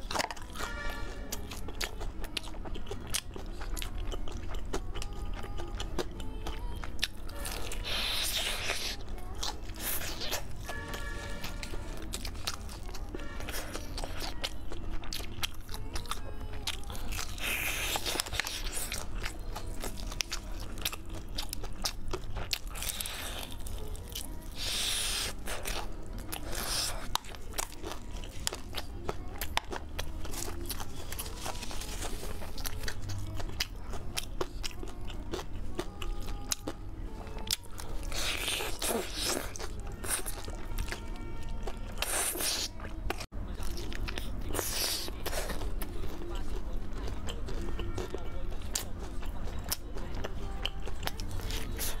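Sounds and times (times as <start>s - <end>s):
crunching and chewing fried food: 0.0s - 52.0s.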